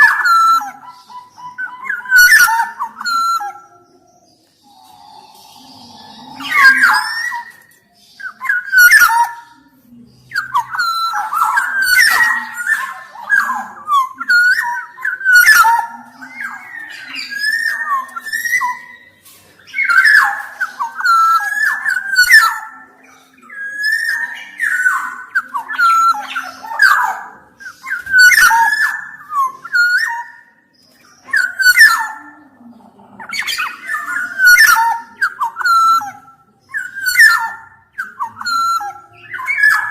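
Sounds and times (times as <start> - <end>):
bird singing whistled phrases: 0.0 - 9.6, 10.3 - 32.4, 33.3 - 39.9.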